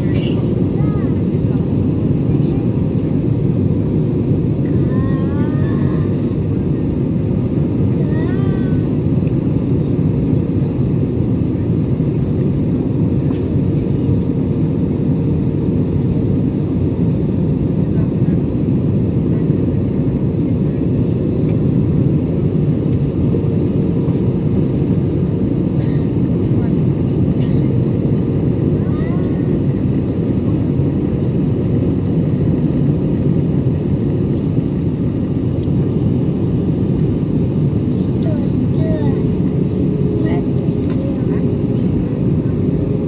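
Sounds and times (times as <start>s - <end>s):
jet cabin engine and airflow rush: 0.0s - 43.0s.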